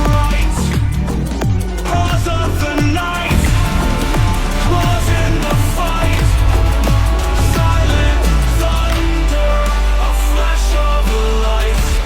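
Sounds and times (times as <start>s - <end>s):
electronic music with pounding bass: 0.0s - 12.0s.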